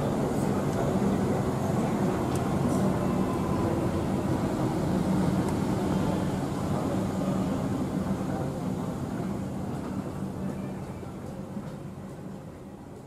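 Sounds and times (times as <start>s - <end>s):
underground train rumbling: 0.0s - 13.0s.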